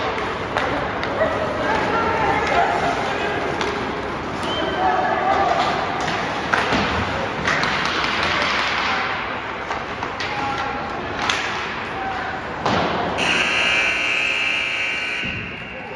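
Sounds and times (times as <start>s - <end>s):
hockey sticks and puck clacking: 0.0s - 15.8s.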